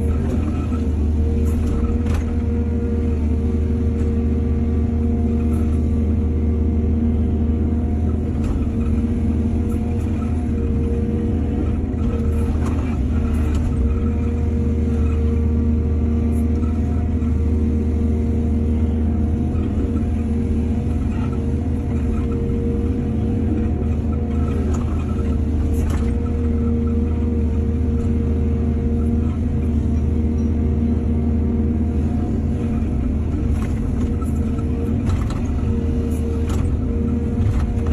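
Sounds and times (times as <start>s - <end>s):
diesel engine humming: 0.0s - 37.9s.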